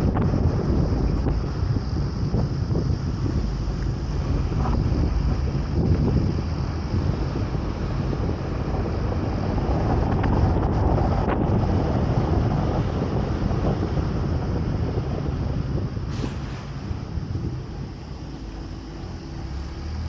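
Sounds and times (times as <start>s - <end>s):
vehicle engine rumble: 0.0s - 20.0s
wind buffeting microphone: 0.0s - 20.0s.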